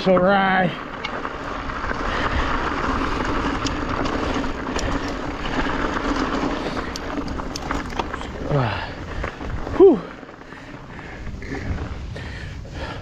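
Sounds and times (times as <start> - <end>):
bike tyre and wind noise: 0.0 - 13.0.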